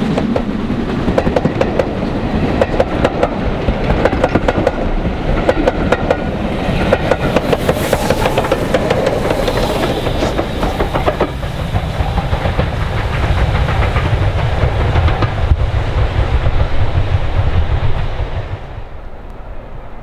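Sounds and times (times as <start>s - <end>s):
train wheels clicking on rails: 0.0s - 18.9s
steam locomotive rumble: 0.0s - 20.0s.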